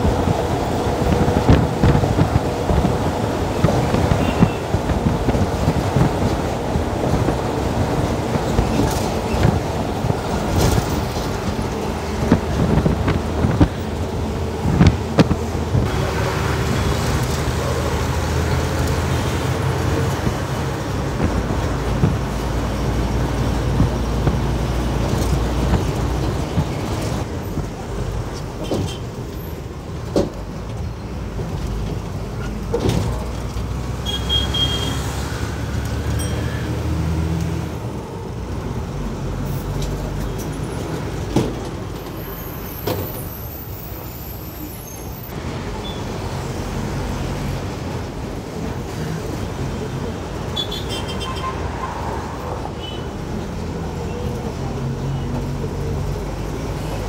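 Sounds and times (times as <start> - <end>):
bus engine running: 0.0 - 57.0
road noise: 0.0 - 57.0.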